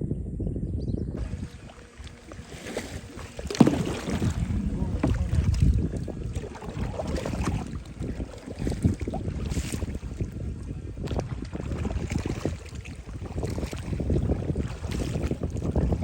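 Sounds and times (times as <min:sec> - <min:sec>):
wind buffeting microphone: 0:00.0 - 0:16.0
kayak paddles splashing in water: 0:01.2 - 0:16.0.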